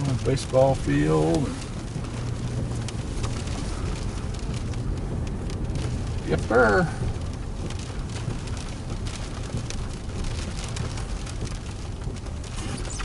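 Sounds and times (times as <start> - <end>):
low car hum: 0.0 - 13.0
rain falling on a car: 0.0 - 13.0.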